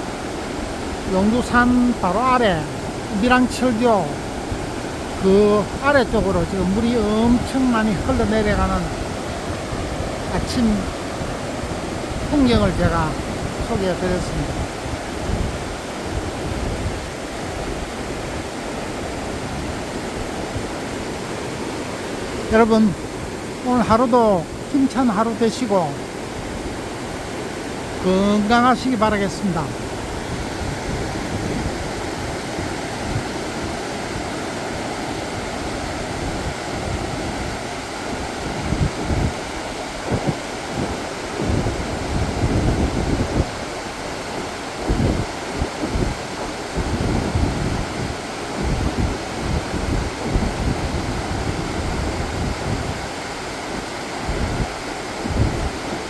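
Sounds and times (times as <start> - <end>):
wind buffeting microphone: 0.0 - 23.6, 29.6 - 56.0
river rushing: 0.0 - 56.0.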